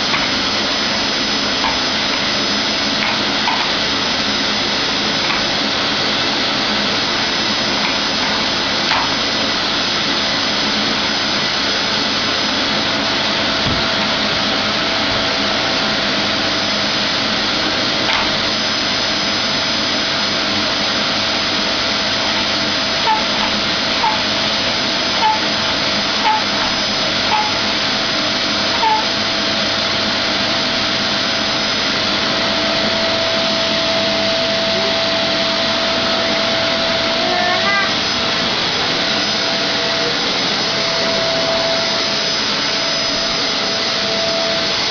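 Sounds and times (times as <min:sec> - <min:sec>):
steady whine: 0:00.0 - 0:44.9
vacuum cleaner running: 0:00.0 - 0:44.9.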